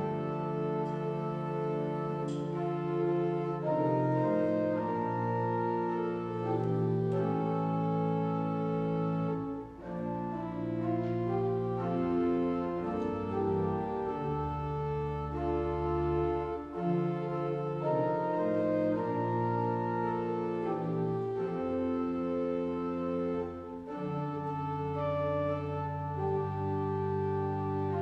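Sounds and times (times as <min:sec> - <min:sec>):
organ playing slow chords: 0:00.0 - 0:28.0.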